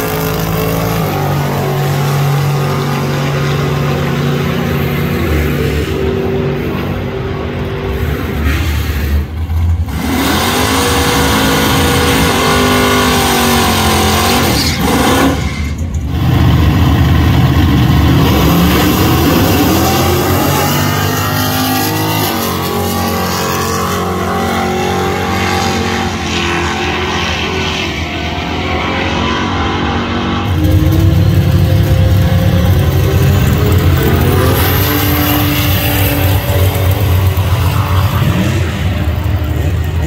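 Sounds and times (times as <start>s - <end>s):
car engine revving hard: 7.9s - 40.0s.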